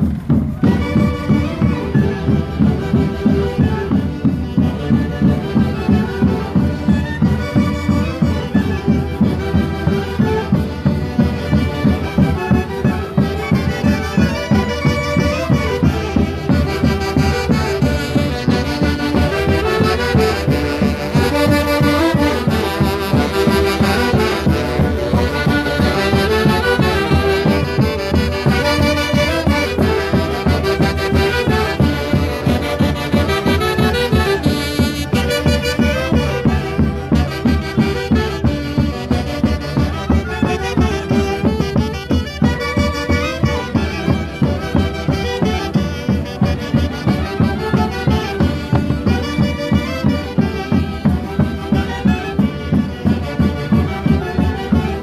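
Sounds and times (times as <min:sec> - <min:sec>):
saxophones playing in chorus: 0:03.9 - 0:55.0.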